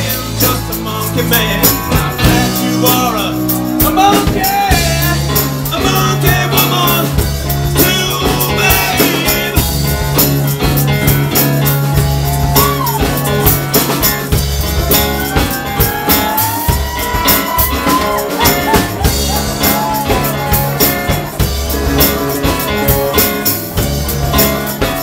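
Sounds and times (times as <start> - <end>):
drum kit steady beat: 0.0 - 25.0
electric guitar: 0.0 - 25.0.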